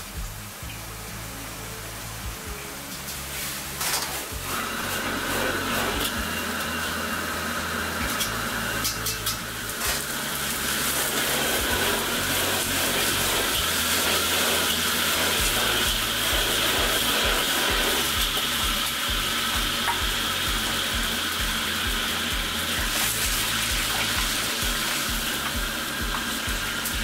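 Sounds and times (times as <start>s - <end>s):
gas burner roaring: 0.0s - 27.0s
water hissing in hot wok: 0.0s - 27.0s.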